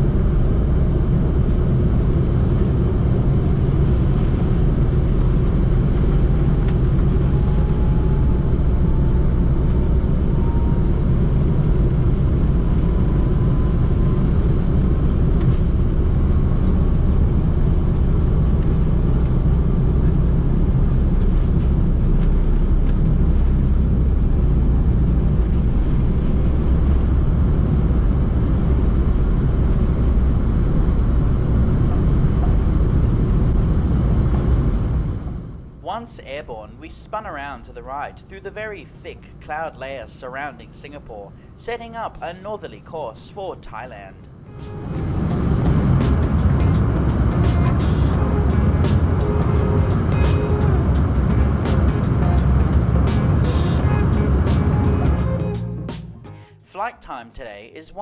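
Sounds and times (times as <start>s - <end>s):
faint rising whine: 0.0s - 37.5s, 44.2s - 56.3s
jet engine rumble: 0.0s - 56.5s.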